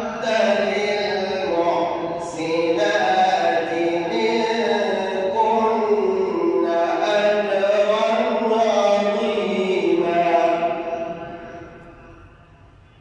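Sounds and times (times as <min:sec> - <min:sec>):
man chanting with echo: 0:00.0 - 0:13.0.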